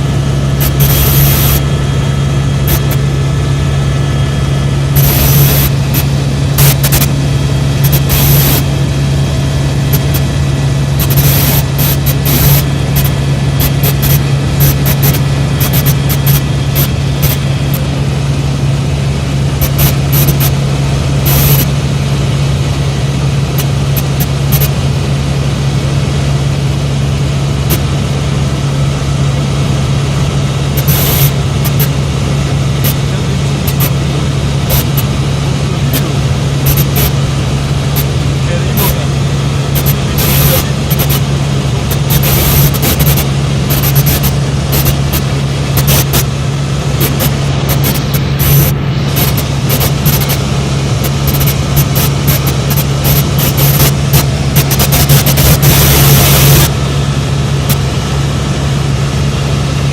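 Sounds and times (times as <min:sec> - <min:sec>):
helicopter rotor drone: 0:00.0 - 0:59.9.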